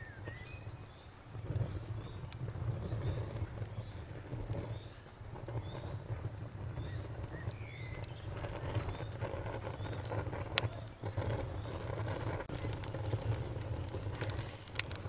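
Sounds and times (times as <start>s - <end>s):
campfire crackling and popping: 0.0s - 15.0s
cricket chirping: 0.0s - 15.0s
low steady rumble: 0.0s - 15.0s.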